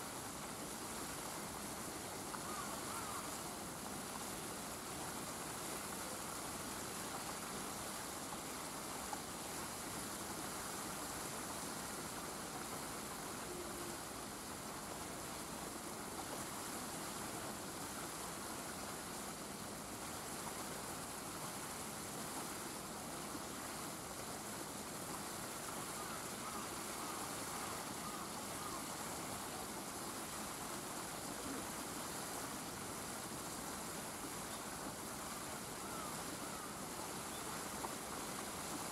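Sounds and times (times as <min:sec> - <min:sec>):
outdoor background hiss: 0:00.0 - 0:38.9.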